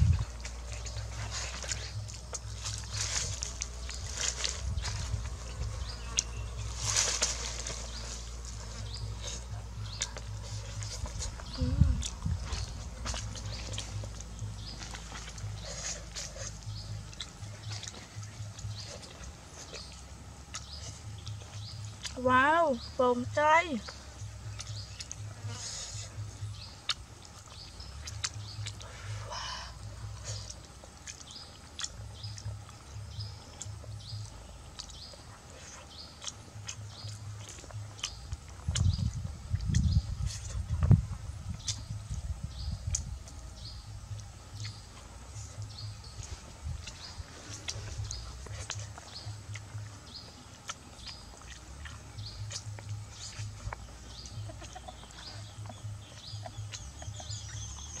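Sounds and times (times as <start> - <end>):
bird chirping: 0.0 - 58.0
low pulsing throb: 0.0 - 58.0
low uneven rumble: 0.0 - 58.0.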